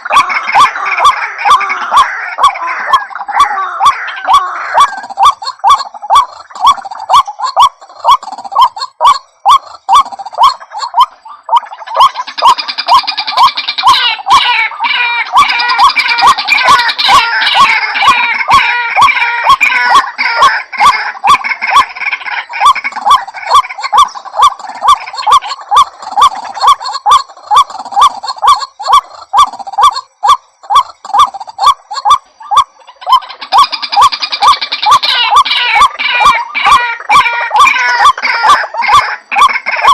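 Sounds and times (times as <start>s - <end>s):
higher bird calls: 0.0s - 39.9s
waterhen calling: 0.0s - 39.9s.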